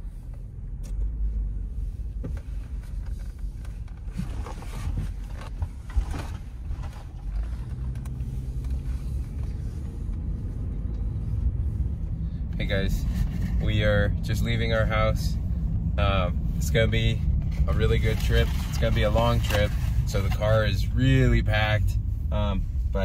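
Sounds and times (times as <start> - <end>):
car engine rumbling inside cabin: 0.0 - 23.0.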